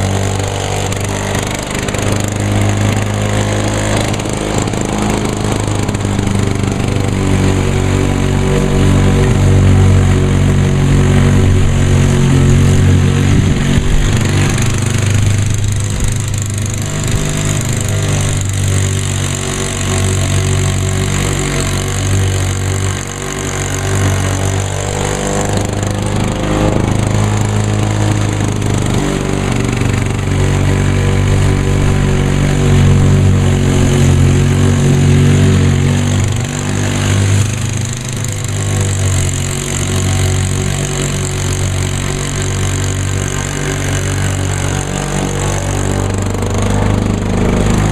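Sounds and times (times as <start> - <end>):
lawn mower engine running: 0.0 - 47.9.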